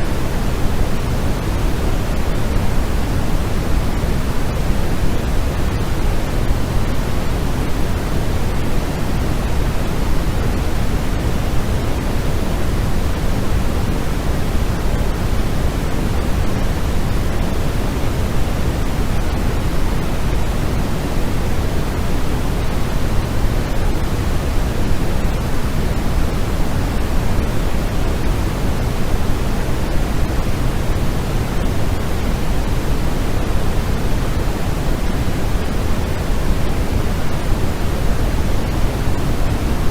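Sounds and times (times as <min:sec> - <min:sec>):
steady synthetic noise hiss: 0:00.0 - 0:39.9.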